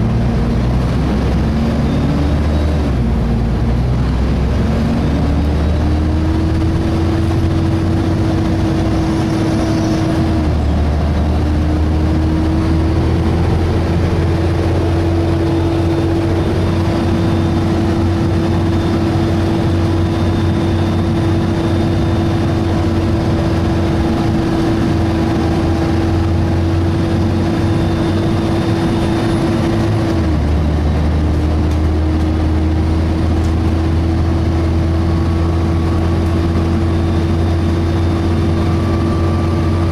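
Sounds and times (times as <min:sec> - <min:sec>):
bus engine low drone: 0:00.0 - 0:39.9
engine cooling fan whine: 0:00.0 - 0:39.9.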